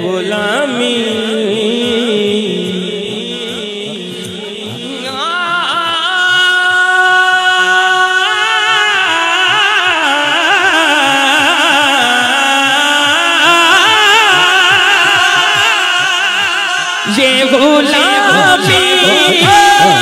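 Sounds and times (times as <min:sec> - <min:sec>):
man singing through a microphone: 0:00.0 - 0:20.0.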